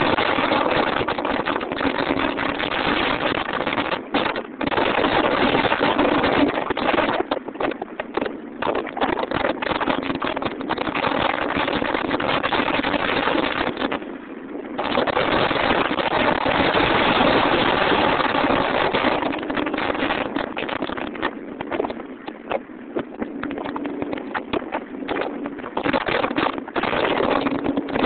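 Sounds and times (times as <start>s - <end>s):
wind noise: 0.0s - 28.0s.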